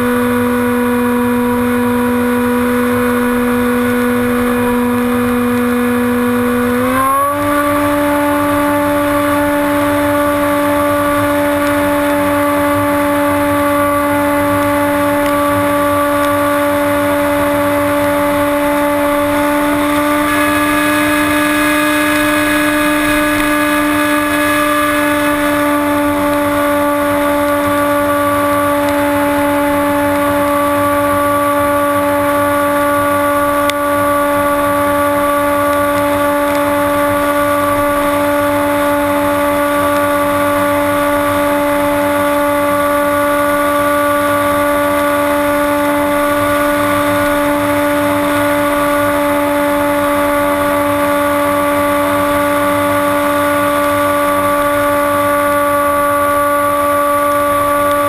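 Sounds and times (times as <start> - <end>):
electric motor and propeller whine: 0.0 - 58.0.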